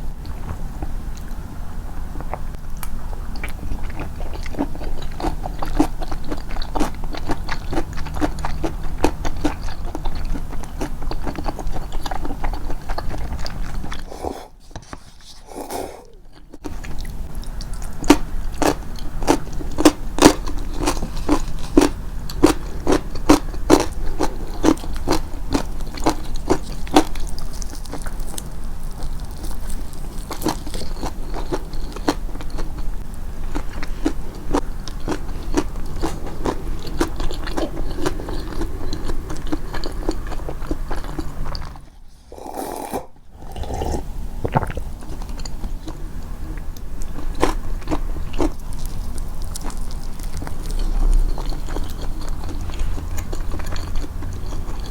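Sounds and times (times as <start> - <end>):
chewing crunchy food: 2.2 - 54.9.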